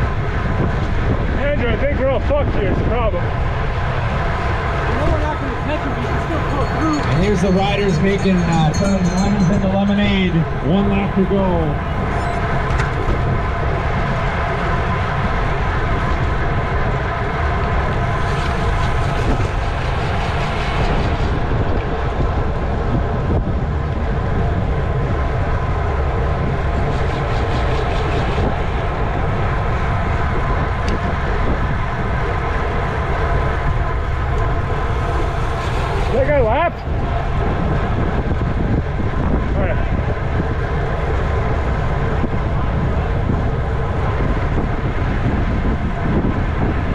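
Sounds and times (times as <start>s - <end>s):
hum from moving bicycle: 0.0s - 46.9s
wind buffeting microphone: 0.0s - 46.9s.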